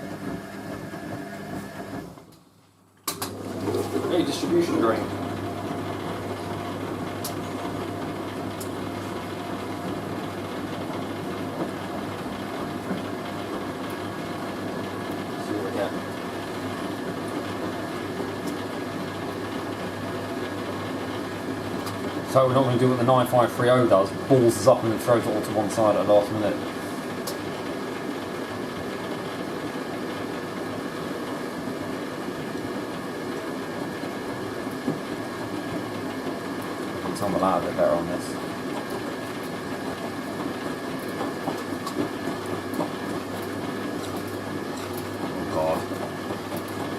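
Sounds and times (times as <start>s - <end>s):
drain pump humming: 0.0s - 2.4s, 3.0s - 46.9s
washing machine drum turning: 3.1s - 26.3s, 30.8s - 46.9s.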